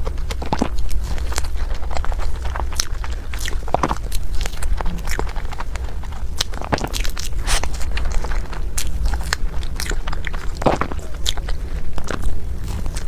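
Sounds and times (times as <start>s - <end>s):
person chewing food: 0.0s - 13.0s
wet mouth clicks and crackles: 0.0s - 13.0s.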